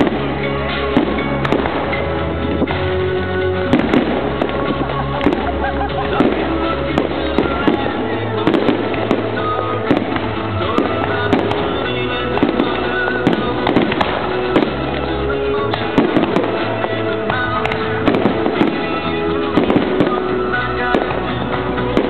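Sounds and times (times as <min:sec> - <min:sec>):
fireworks bangs and crackles: 0:00.0 - 0:22.0
song with steady bass line: 0:00.0 - 0:22.0.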